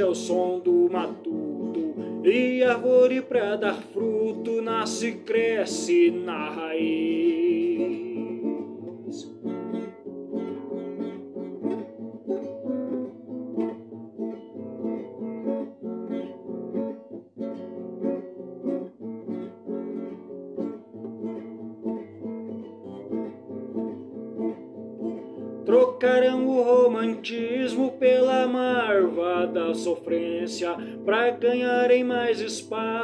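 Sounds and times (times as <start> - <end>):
plucked acoustic strings: 0.0 - 33.0.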